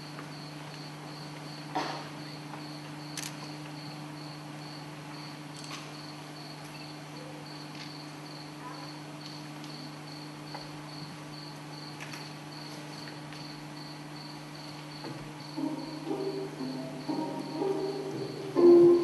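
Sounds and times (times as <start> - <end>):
low electrical hum: 0.0 - 19.0
cricket chirping: 0.1 - 19.0.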